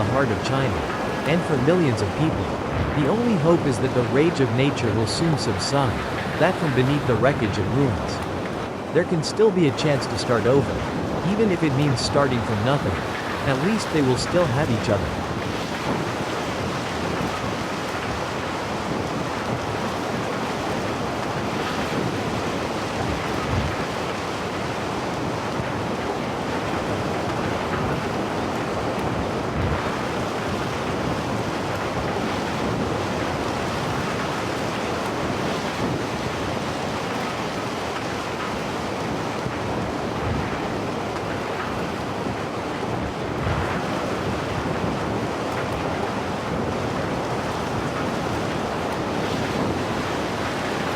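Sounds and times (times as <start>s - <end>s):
wind buffeting microphone: 0.0s - 4.8s, 9.9s - 13.8s, 14.7s - 50.9s
rushing water: 0.0s - 50.9s.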